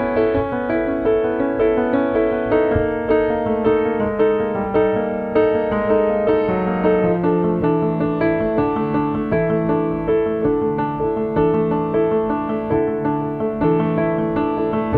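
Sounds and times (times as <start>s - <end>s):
gentle solo piano: 0.0s - 14.9s.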